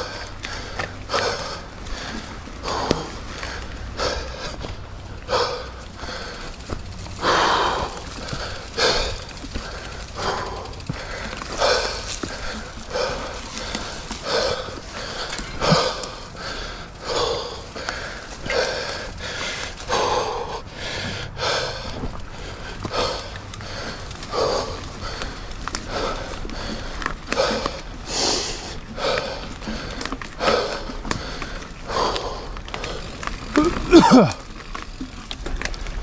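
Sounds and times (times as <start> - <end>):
steady low rumble: 0.0 - 34.1
person breathing hard: 0.0 - 35.1.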